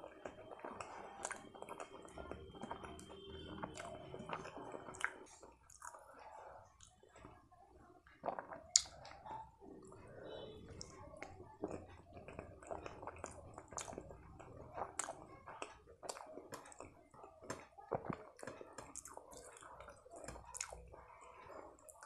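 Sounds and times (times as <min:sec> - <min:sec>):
chewing with wet mouth smacks: 0:00.0 - 0:07.3, 0:08.1 - 0:22.0
fingers squishing thick gravy: 0:00.0 - 0:22.0.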